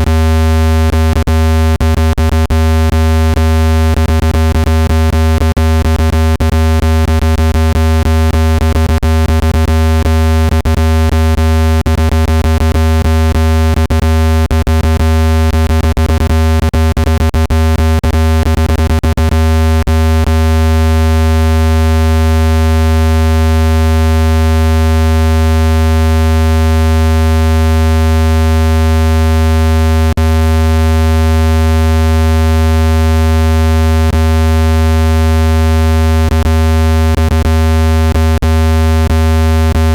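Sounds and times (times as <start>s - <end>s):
low electronic buzz: 0.0s - 39.9s.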